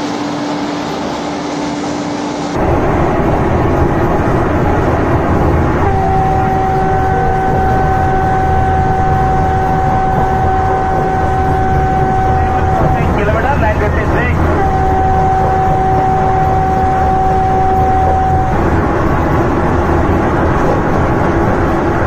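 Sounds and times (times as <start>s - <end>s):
steady high tone: 0.0s - 22.0s
train running rumble: 0.0s - 22.0s.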